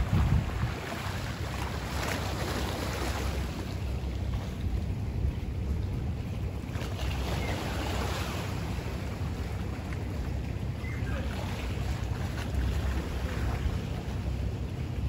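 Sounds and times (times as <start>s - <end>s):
calm sea wash: 0.0s - 15.0s
wind buffeting microphone: 0.0s - 15.0s.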